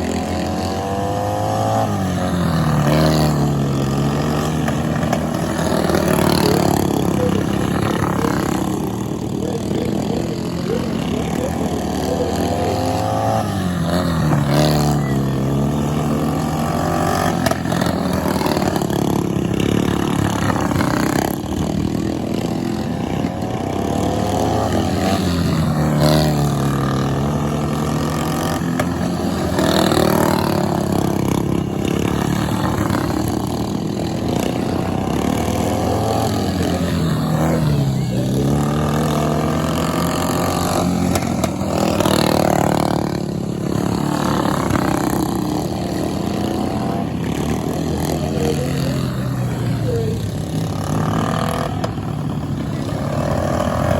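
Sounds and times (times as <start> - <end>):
lawn mower engines revving: 0.0 - 53.9.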